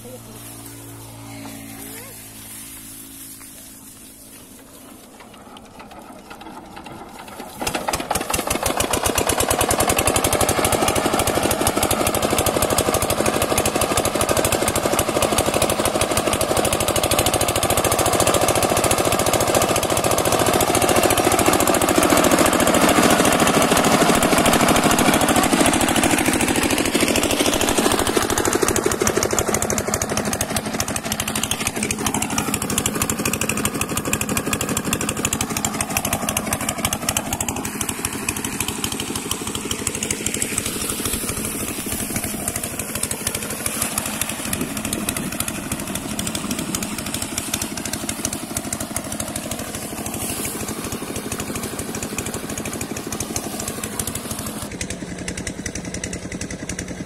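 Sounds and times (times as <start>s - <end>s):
diesel engine running with even knock: 0.0s - 57.0s.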